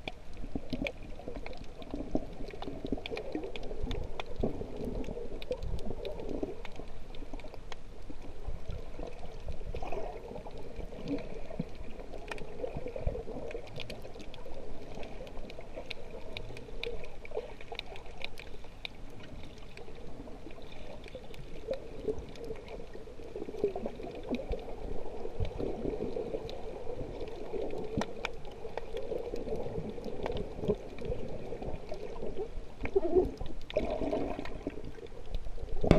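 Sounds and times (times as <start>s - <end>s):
faint sharp clicks: 0.0s - 33.8s
muffled underwater sloshing: 0.0s - 35.9s.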